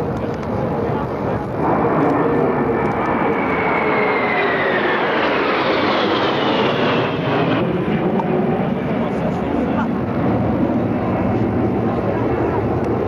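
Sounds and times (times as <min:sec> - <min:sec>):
jet engines roaring past: 0:00.0 - 0:13.0.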